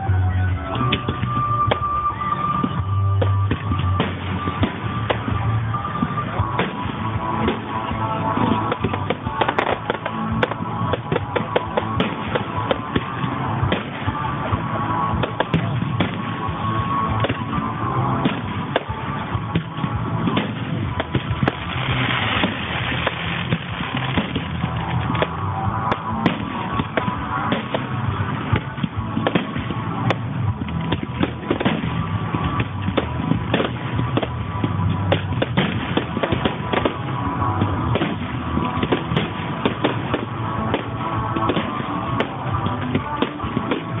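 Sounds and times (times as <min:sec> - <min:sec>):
fireworks bangs and crackles: 0:00.0 - 0:44.0
music playing: 0:00.0 - 0:44.0.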